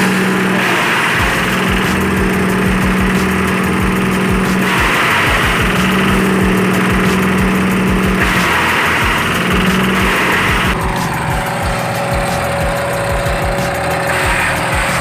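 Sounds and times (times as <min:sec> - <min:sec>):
chopper rushing noise: 0:00.0 - 0:15.0
diesel engine running under load: 0:00.0 - 0:15.0.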